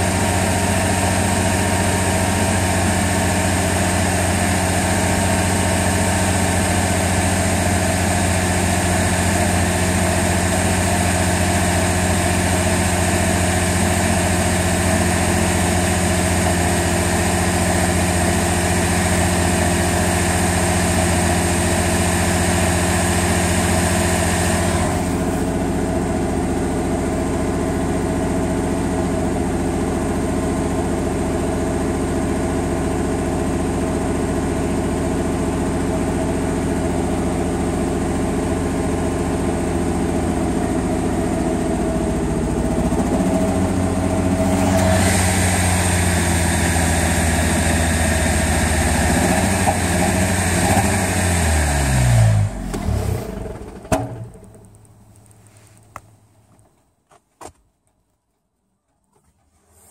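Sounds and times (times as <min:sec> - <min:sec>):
car engine idling: 0:00.0 - 0:56.5.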